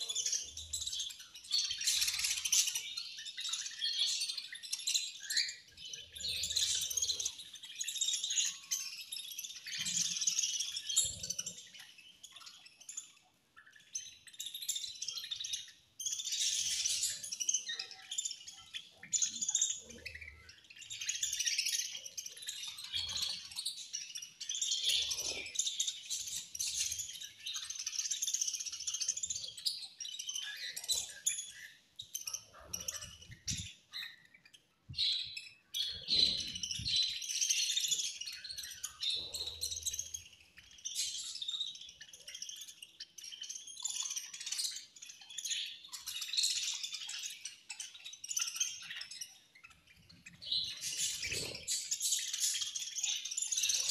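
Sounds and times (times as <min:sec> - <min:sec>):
budgerigars chattering and chirping: 0:00.0 - 0:53.9.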